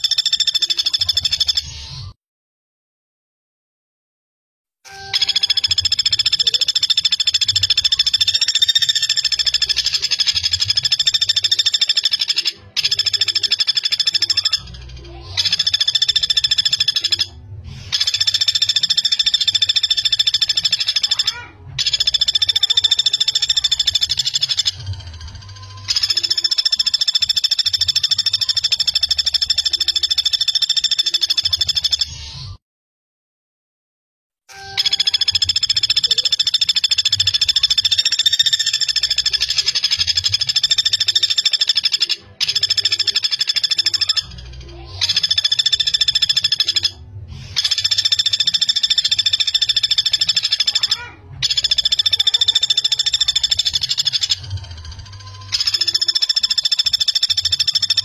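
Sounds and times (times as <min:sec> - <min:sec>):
woodpecker rattling trills: 0:00.0 - 0:01.7, 0:04.9 - 0:32.2, 0:34.5 - 0:58.0.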